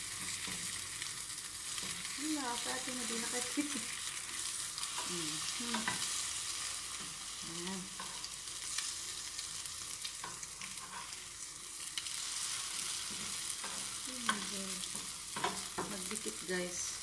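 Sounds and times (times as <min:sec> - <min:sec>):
bread sizzling in butter: 0:00.0 - 0:17.0.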